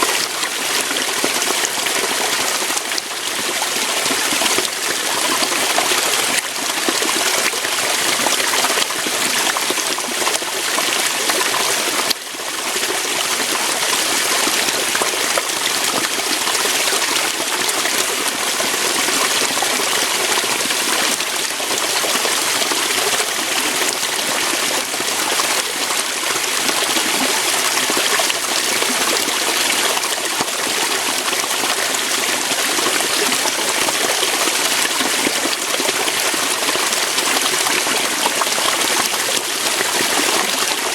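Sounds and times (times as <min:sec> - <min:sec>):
waterfall rushing over rocks: 0:00.0 - 0:40.9.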